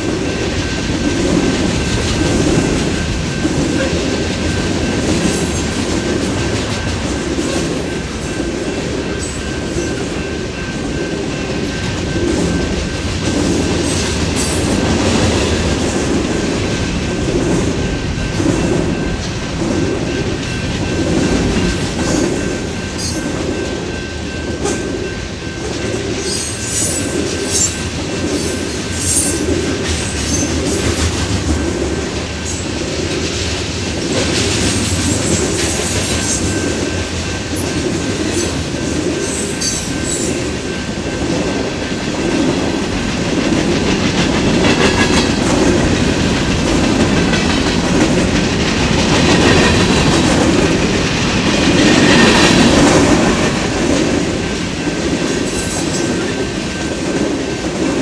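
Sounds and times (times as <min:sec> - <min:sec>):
clickety-clack of steel wheels: 0:00.0 - 0:58.0
freight train rumbling: 0:00.0 - 0:58.0.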